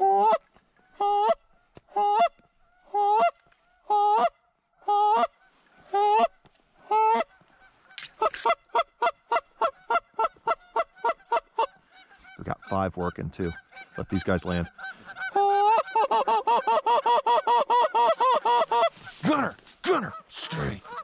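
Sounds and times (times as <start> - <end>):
goose call clucks: 0.0 - 19.3, 20.0 - 21.0.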